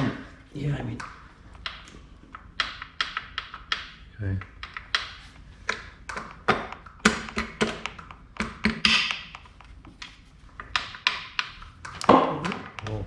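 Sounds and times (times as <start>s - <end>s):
metal parts tapping and clicking: 1.0s - 13.0s.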